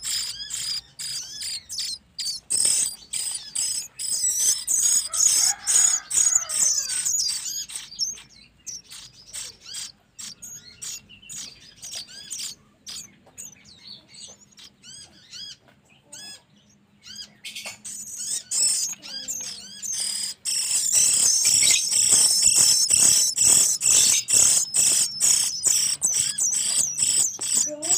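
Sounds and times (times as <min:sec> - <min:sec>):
nestlings begging calls: 0:00.0 - 0:27.9.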